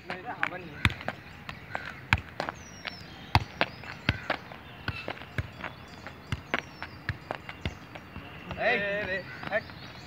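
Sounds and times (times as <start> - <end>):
footsteps and ball thuds: 0.0 - 10.0.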